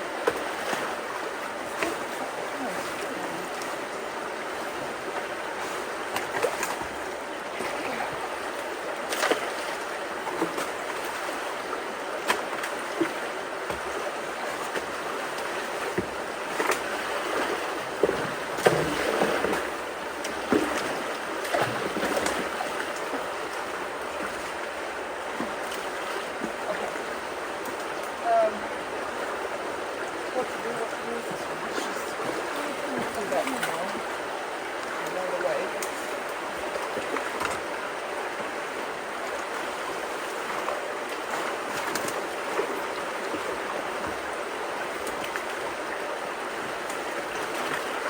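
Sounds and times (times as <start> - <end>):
creek water rushing: 0.0 - 48.0
water splashes and knocks: 0.0 - 48.0.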